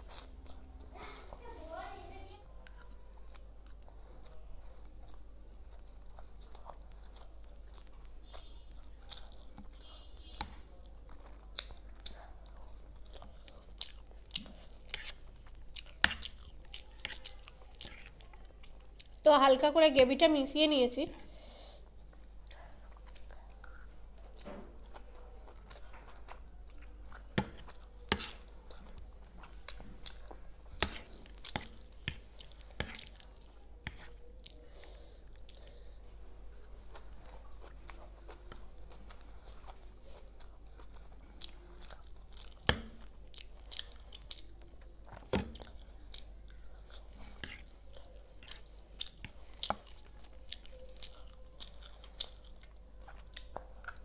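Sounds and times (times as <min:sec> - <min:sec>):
chewing noodles: 0:00.0 - 0:01.5, 0:02.6 - 0:19.2, 0:21.8 - 0:54.0.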